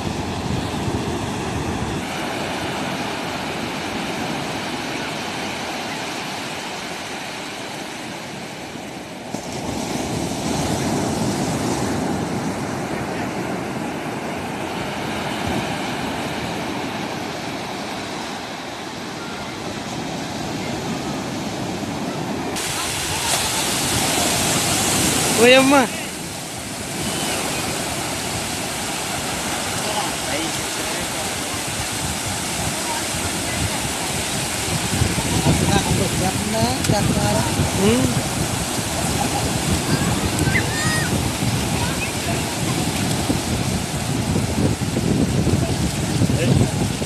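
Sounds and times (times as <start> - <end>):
sea waves breaking on beach: 0.0 - 47.0.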